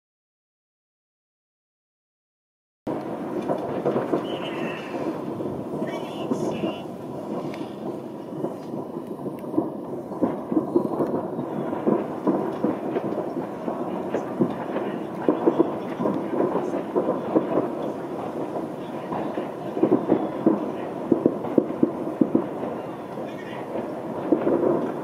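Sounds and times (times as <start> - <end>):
distant fireworks rumble: 2.9 - 25.0
sharp firework pops: 2.9 - 25.0.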